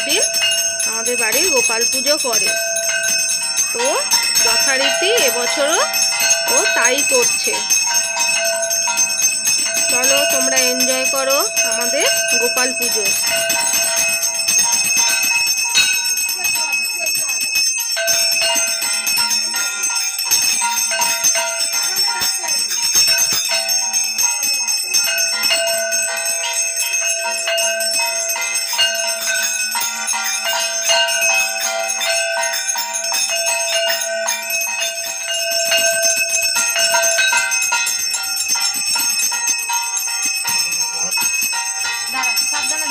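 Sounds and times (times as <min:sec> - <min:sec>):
hand bell jangling: 0:00.0 - 0:42.9.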